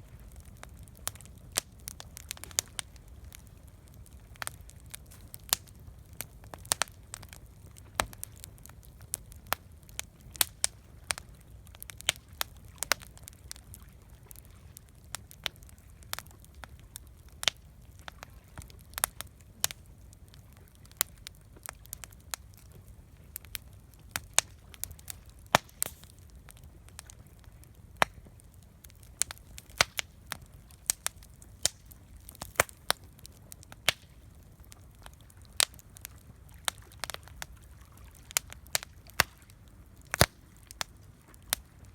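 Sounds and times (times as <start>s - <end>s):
wood fire popping: 0.1s - 41.9s.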